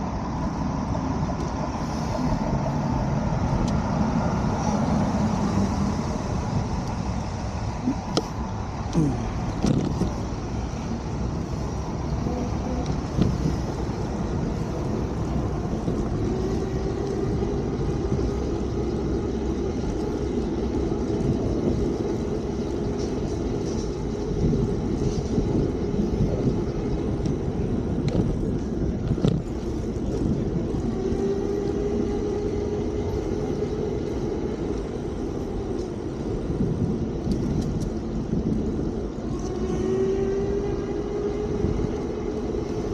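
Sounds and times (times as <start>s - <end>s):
wind rumble: 0.0s - 42.9s.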